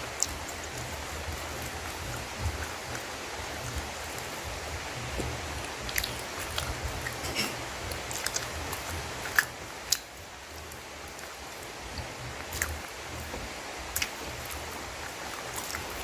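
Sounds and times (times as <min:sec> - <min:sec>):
close chewing with mouth clicks: 0:00.0 - 0:16.0
steady hiss: 0:00.0 - 0:16.0.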